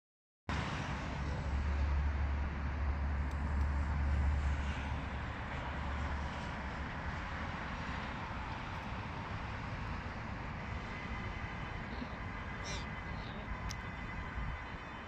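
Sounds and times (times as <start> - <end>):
low outdoor rumble: 0.5 - 15.0.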